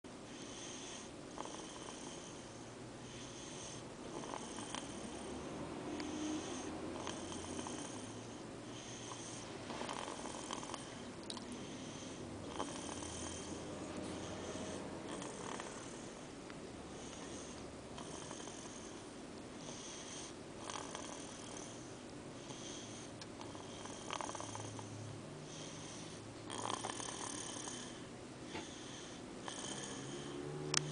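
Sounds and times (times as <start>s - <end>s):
soft snoring: 0.3s - 30.9s.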